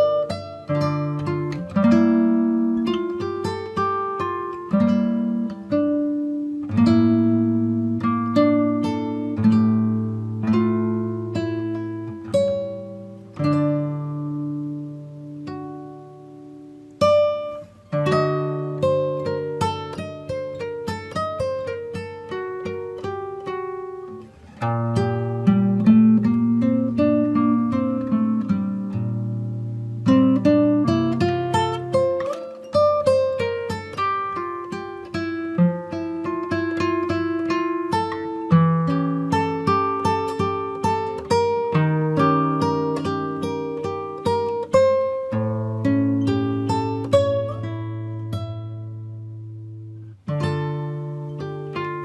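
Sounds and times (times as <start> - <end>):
acoustic guitar chords: 0.0 - 52.0
plucked string instrument music: 0.0 - 52.0.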